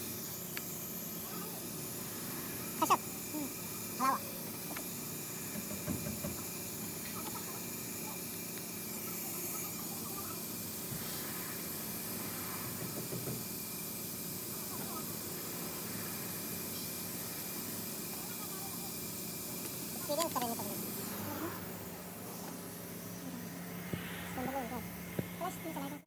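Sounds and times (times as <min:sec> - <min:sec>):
vehicle running with hissing drone: 0:00.0 - 0:26.0.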